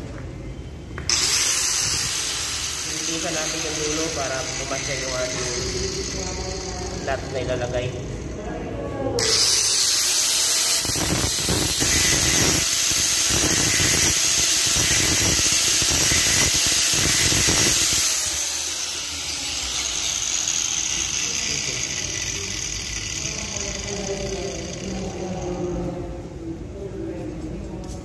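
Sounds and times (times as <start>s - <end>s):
angle grinder cutting steel: 1.1s - 8.4s, 9.2s - 25.6s.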